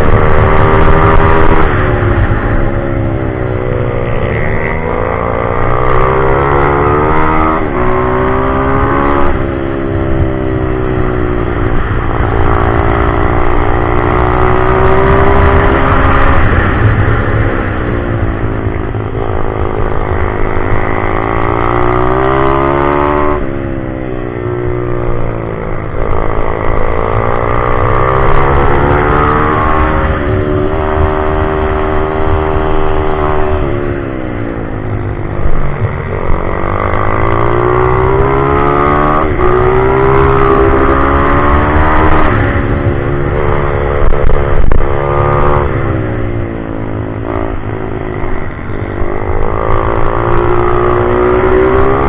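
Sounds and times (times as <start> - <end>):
pit bike engine revving: 0.0 - 23.6, 24.6 - 52.0.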